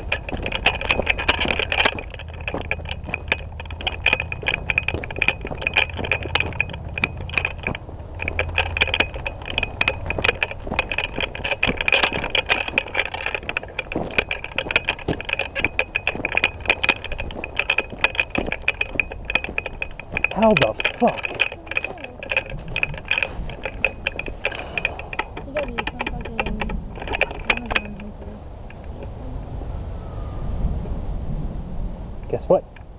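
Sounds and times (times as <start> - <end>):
gear clicking and rattling: 0.0 - 29.2, 32.2 - 32.9.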